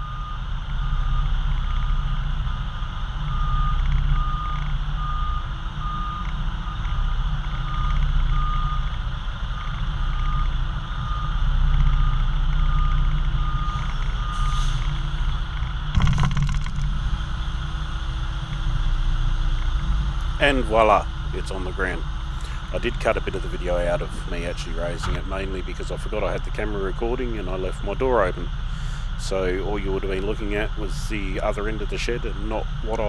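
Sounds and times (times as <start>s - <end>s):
truck diesel engine running: 0.0s - 33.0s
truck reversing alarm beeping: 0.0s - 33.0s.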